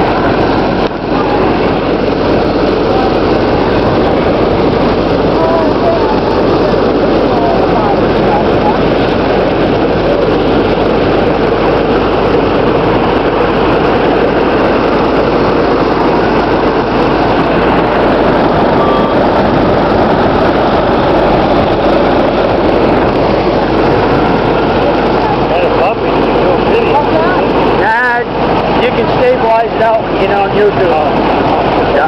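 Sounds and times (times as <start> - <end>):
drive and snow noise: 0.0 - 32.0
snowmobile engine running: 0.0 - 32.0.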